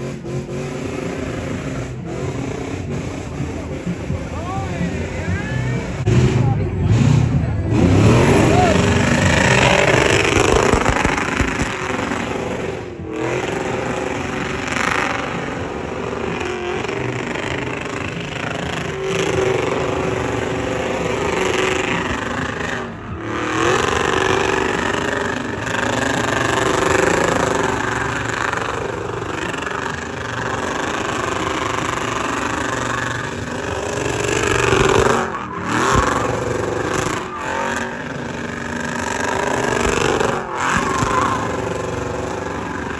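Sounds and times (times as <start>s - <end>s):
vehicle engines revving: 0.0s - 42.9s.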